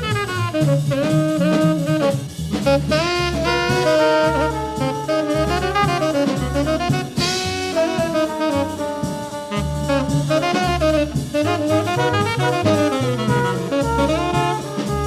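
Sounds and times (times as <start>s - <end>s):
bass: 0.0s - 15.0s
drums: 0.0s - 15.0s
saxophone melody: 0.0s - 15.0s.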